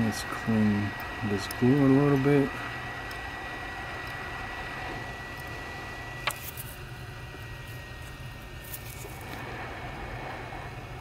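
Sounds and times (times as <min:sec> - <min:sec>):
hot air blower hiss: 0:00.0 - 0:11.0
thin high whine: 0:00.0 - 0:11.0.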